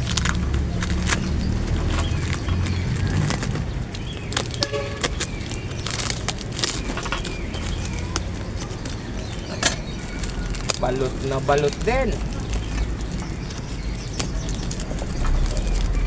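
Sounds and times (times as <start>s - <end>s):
cardboard rustling: 0.0s - 16.0s
tape tearing: 0.0s - 16.0s.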